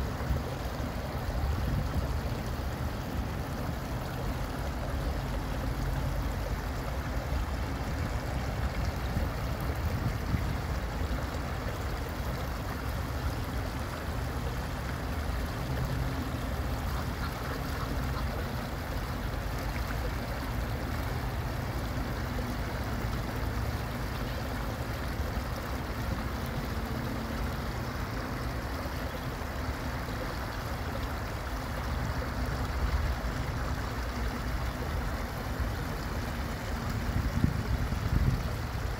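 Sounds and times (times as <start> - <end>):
water running over rocks: 0.0 - 38.9.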